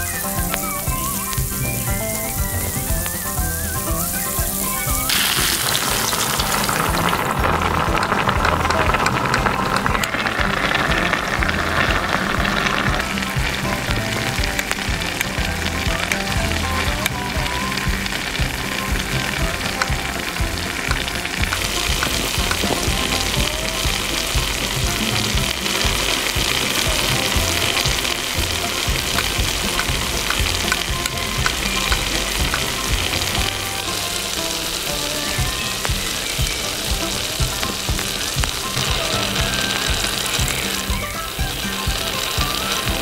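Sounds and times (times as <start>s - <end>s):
background music: 0.0s - 43.0s
hot oil sizzling in a pan: 0.0s - 43.0s
oil popping and crackling: 0.0s - 43.0s.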